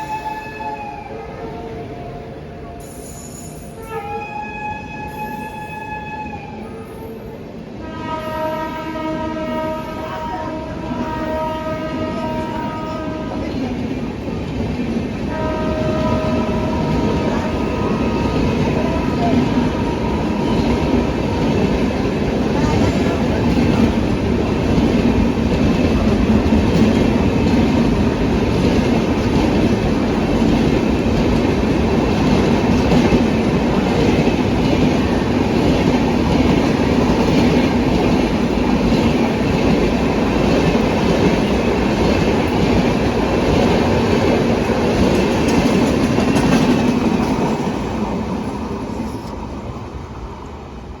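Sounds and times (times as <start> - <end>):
train coaches rolling past: 0.0 - 51.0.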